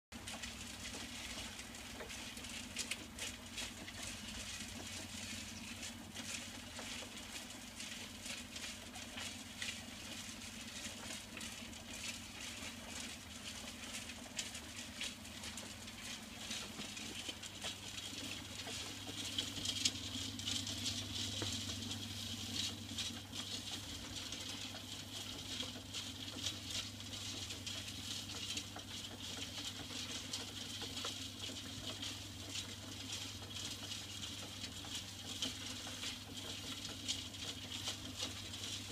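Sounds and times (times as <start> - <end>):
compost tumbling in steel drum: 0.2 - 38.9.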